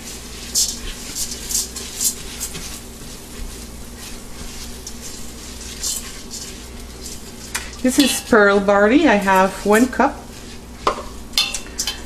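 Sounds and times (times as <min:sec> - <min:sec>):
grains sizzling in oil: 0:00.0 - 0:12.0
spatula scraping a pot: 0:00.0 - 0:12.0.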